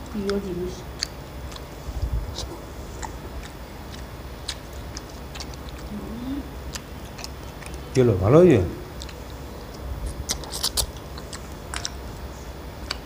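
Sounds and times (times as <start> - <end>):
chewing and mouth smacks: 0.0 - 6.0, 6.6 - 8.0, 8.9 - 13.0.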